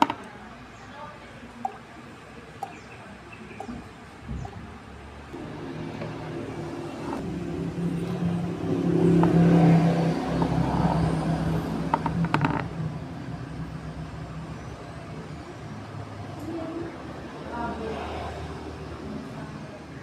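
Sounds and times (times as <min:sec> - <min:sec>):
vehicle engine running: 0:01.8 - 0:20.0.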